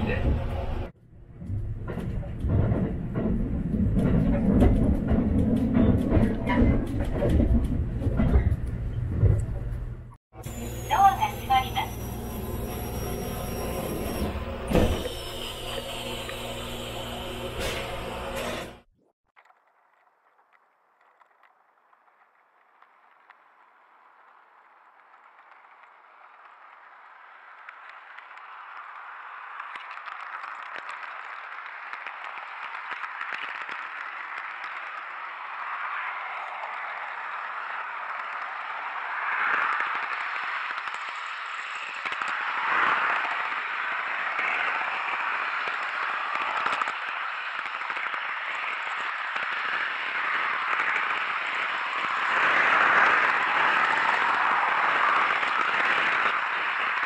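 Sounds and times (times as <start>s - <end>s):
model train wheels on rails: 0.0s - 18.9s, 20.0s - 57.0s.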